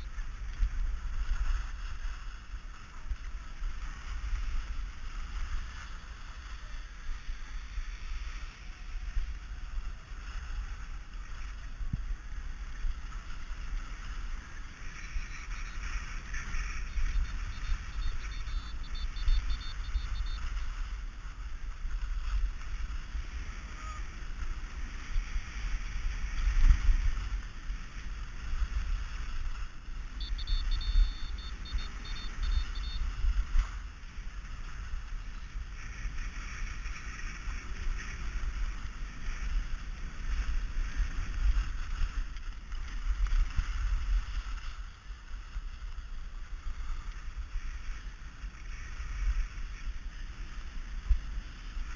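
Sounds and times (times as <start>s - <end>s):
skis scraping over packed snow: 0.0s - 51.9s.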